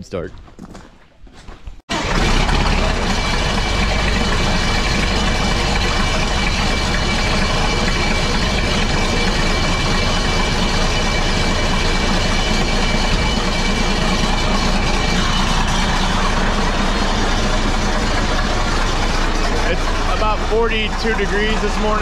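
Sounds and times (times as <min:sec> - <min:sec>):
diesel tractor engine idling: 0:01.9 - 0:22.0.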